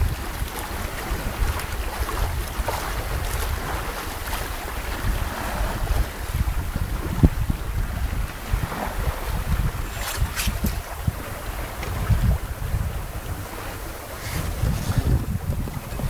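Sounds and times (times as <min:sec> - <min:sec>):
water splashing along hull: 0:00.0 - 0:16.0
wave slap: 0:00.0 - 0:16.0
wind buffeting microphone: 0:00.0 - 0:16.0.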